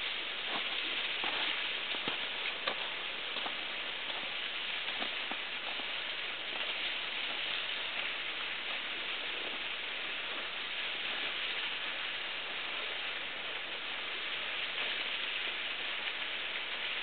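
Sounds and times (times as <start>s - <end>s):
rushing hiss of falling water: 0.0s - 17.0s.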